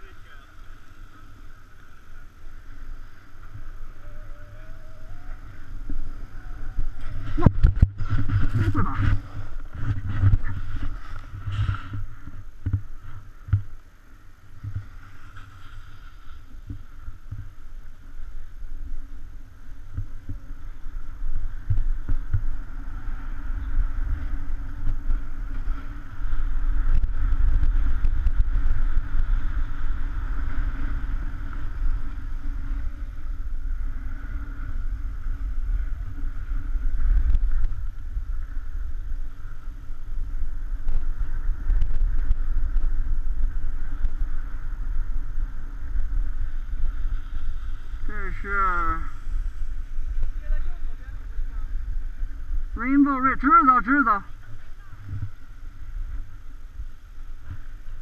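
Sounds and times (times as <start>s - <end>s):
snowboard scraping over snow: 0.0s - 52.8s
wind noise on microphone: 0.0s - 58.0s.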